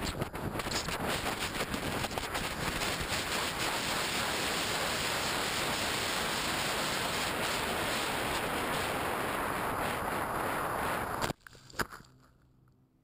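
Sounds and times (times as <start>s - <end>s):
wind rushing over microphone: 0.0s - 11.4s.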